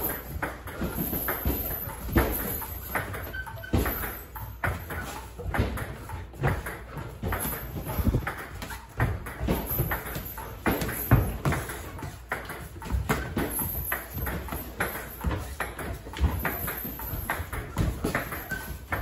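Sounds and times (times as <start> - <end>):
boxing gloves thudding: 0.0 - 19.0.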